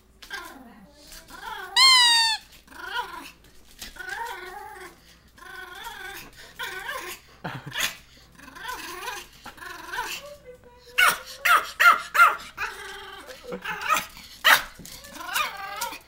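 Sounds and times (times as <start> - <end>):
dog whining and grumbling: 0.2 - 3.4, 4.0 - 7.3, 8.4 - 16.0.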